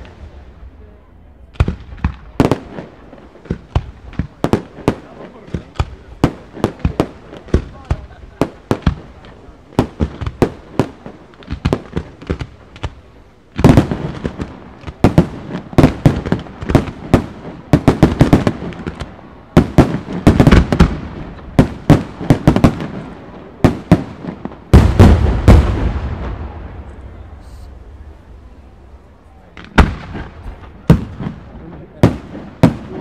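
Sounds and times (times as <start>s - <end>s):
firework cracks and bangs: 0.0s - 0.8s, 1.5s - 28.4s, 29.4s - 33.0s
loud firework booms: 0.0s - 28.6s, 29.4s - 33.0s.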